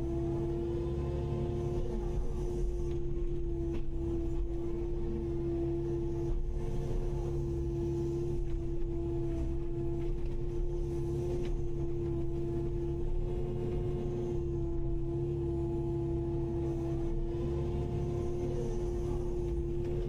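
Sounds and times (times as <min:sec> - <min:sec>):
excavator engine rumble with whine: 0:00.0 - 0:20.0.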